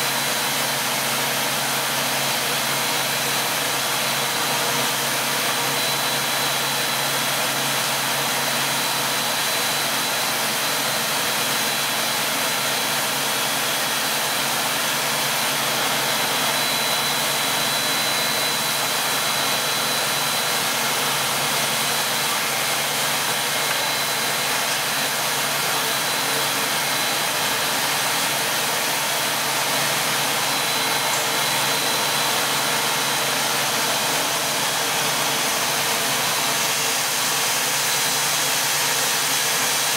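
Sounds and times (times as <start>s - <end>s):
extruder machine noise: 0.0s - 39.9s
thin high machine whine: 0.0s - 39.9s.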